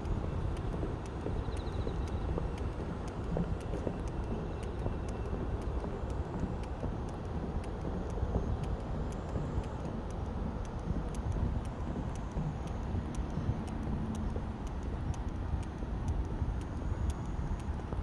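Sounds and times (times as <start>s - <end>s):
footsteps on wooden boardwalk: 0.1s - 18.0s.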